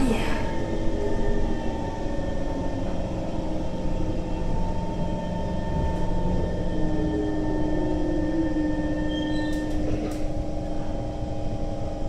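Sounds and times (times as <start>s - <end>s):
electrical humming tones: 0.0s - 12.0s
train cabin low rumble: 0.0s - 12.0s.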